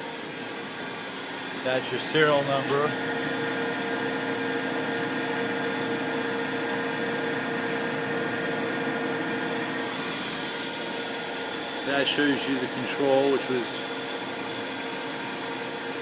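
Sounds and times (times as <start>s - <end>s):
machinery whirring and humming: 0.0s - 16.0s.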